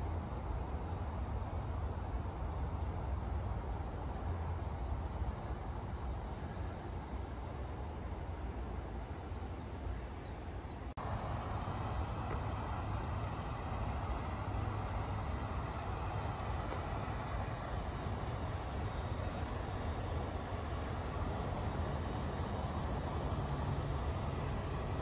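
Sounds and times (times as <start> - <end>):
faint high whine: 0.0 - 25.0
hiss: 0.0 - 25.0.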